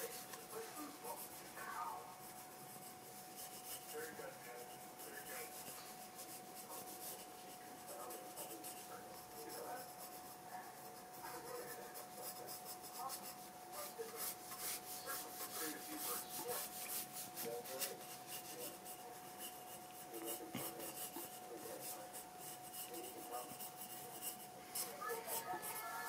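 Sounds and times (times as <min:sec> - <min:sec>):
faint steady hum: 0:00.0 - 0:26.0
pencil scratching on paper: 0:00.0 - 0:26.0.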